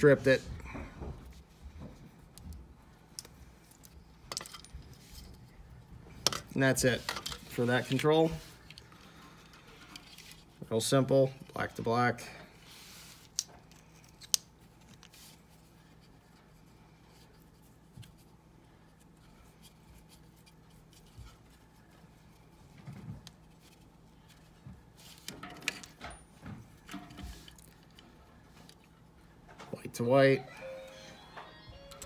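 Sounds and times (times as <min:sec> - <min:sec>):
hands twisting wires: 0:01.3 - 0:10.6, 0:12.9 - 0:29.8.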